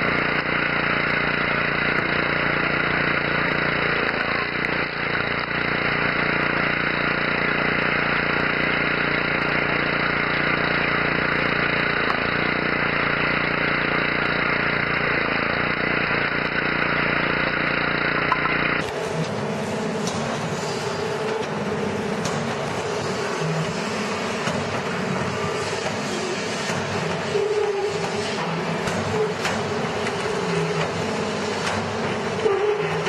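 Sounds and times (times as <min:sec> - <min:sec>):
log splitter running: 0:00.0 - 0:33.0.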